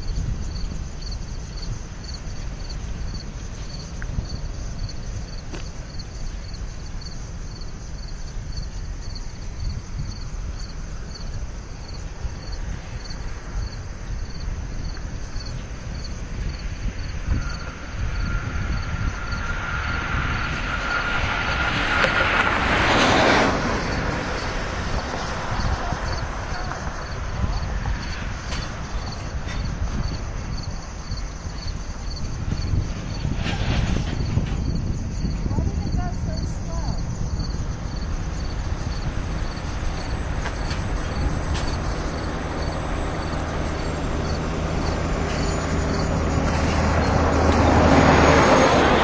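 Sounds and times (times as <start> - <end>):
train cars rolling rumble: 0.0 - 49.0.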